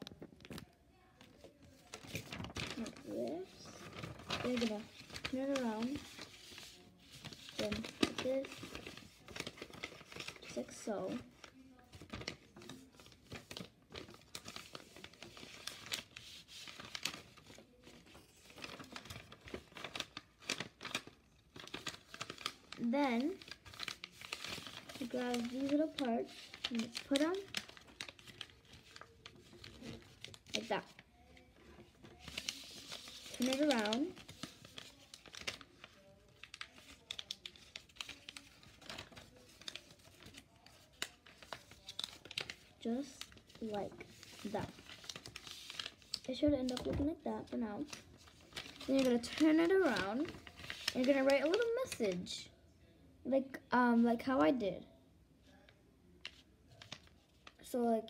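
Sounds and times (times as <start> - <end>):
paper folding and rustling: 0.0 - 52.4, 55.5 - 57.7.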